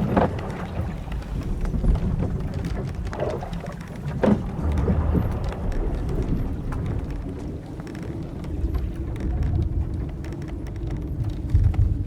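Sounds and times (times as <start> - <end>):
low rumble of wind and sea: 0.0 - 12.0
wooden ship creaking and knocking: 0.0 - 12.0.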